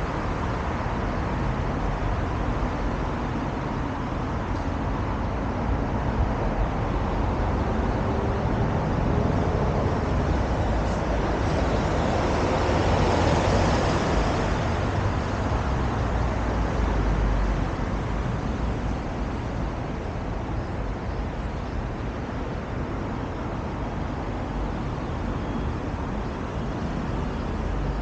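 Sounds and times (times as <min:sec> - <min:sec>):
cars and buses passing: 0:00.0 - 0:28.0
steady traffic hum: 0:00.0 - 0:28.0.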